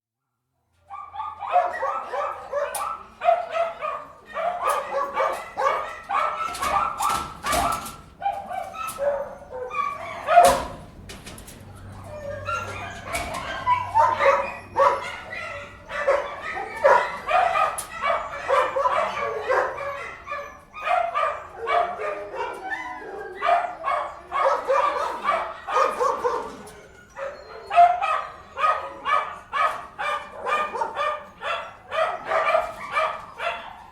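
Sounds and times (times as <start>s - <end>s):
dogs barking and yipping: 0.8s - 33.9s.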